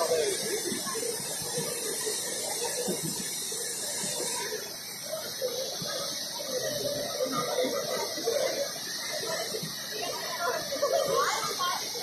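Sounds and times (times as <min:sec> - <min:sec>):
faint voices talking: 0:00.0 - 0:12.0.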